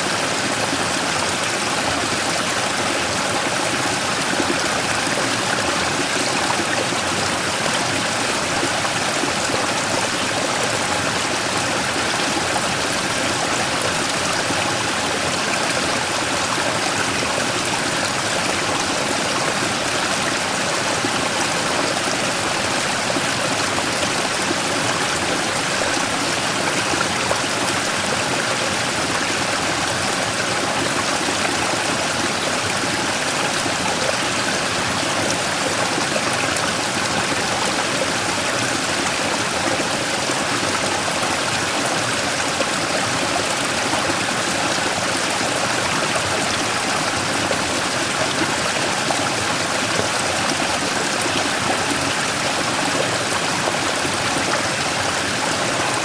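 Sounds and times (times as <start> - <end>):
stream rushing over rock: 0.0 - 56.0.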